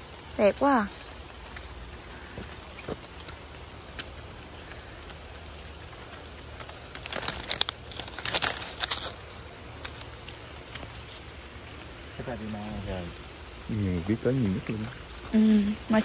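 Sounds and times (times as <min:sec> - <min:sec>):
crackling crinkling rustle: 0:00.0 - 0:16.0
faint background hiss: 0:00.0 - 0:16.0.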